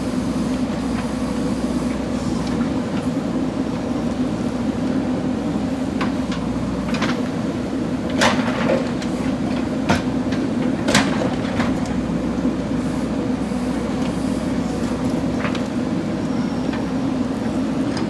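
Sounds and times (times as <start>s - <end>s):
backhoe diesel engine running: 0.0s - 18.0s.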